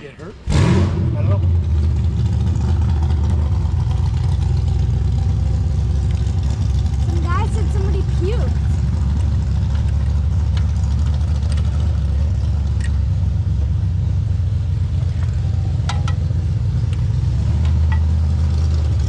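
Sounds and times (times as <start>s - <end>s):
engine idling: 0.4s - 19.0s.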